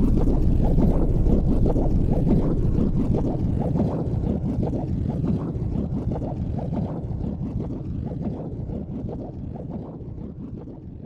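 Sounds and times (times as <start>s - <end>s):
low rumbling ambient soundtrack: 0.0s - 11.0s.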